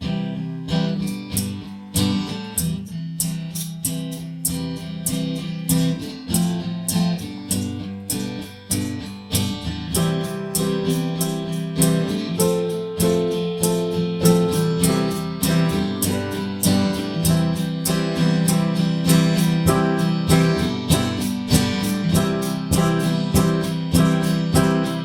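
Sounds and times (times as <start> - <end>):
guitar strumming: 0.0 - 25.0.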